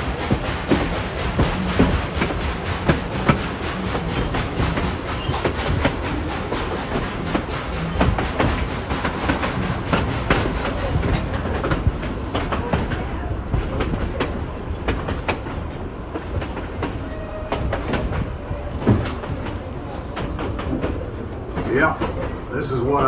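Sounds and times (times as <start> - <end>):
train wheels clacking over rail joints: 0.0 - 23.0.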